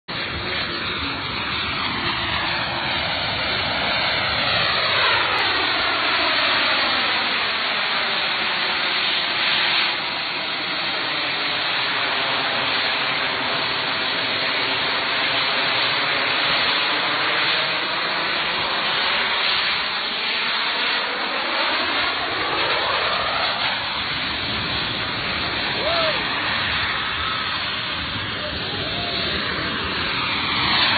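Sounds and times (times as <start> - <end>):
jet turbines roaring: 0.1 - 30.9.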